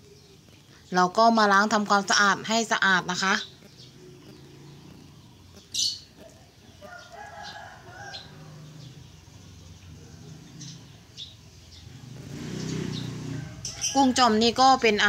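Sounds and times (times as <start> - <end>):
bird calling: 0.0 - 14.6.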